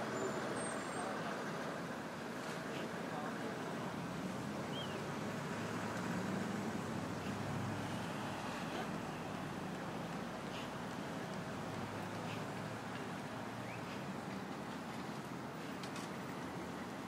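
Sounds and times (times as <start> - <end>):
hum of vehicles: 0.0 - 17.0
low engine rumble: 0.0 - 17.0.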